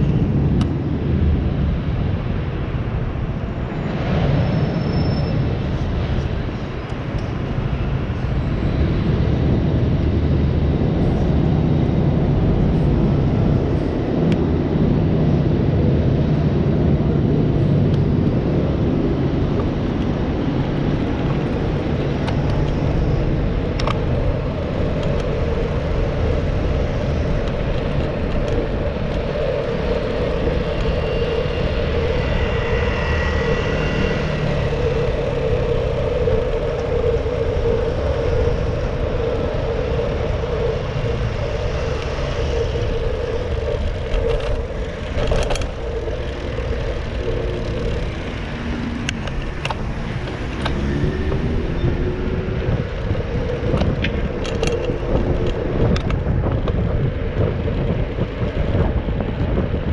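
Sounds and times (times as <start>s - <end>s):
passing road traffic: 0.0s - 59.9s
wind: 0.0s - 59.9s
motor scooter engine hum: 8.9s - 59.9s.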